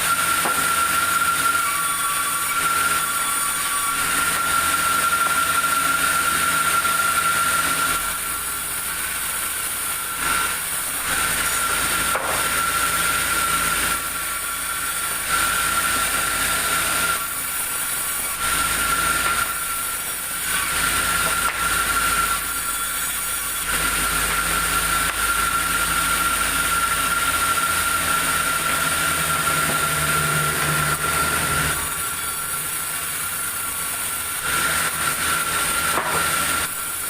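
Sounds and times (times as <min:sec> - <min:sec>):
saw whining and hissing: 0:00.0 - 0:37.0.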